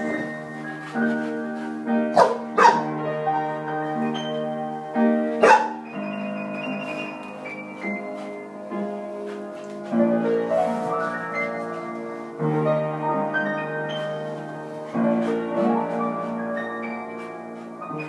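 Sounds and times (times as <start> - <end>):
piano chords and rising runs: 0.0 - 18.0.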